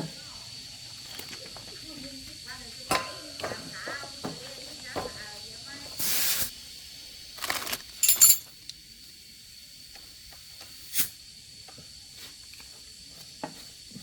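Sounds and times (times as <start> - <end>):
compressed air hissing: 0.0 - 8.4, 9.3 - 12.5.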